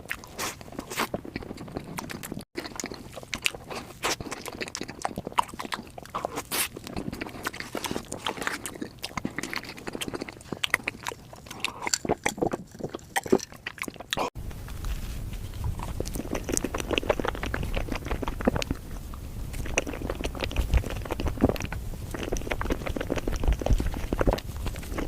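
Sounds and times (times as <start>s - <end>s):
person biting and chewing: 0.0s - 25.0s.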